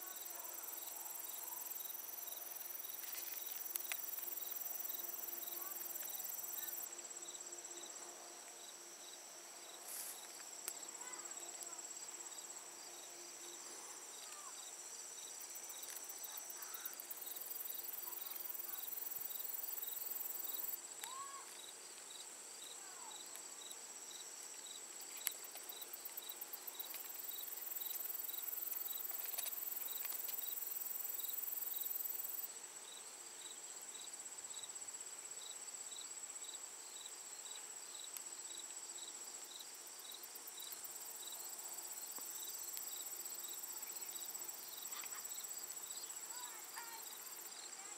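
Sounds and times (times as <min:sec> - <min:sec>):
insect chirping: 0:00.0 - 0:08.0, 0:08.6 - 0:47.9
insect trill: 0:00.0 - 0:08.0, 0:08.6 - 0:47.9.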